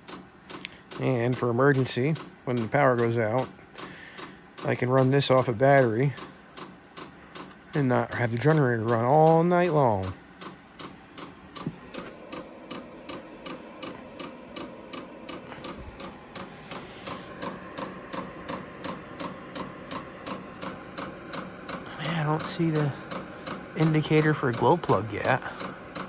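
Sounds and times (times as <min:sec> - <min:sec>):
blower fan humming: 0:00.0 - 0:26.0
fuel pump ticking: 0:00.0 - 0:26.0.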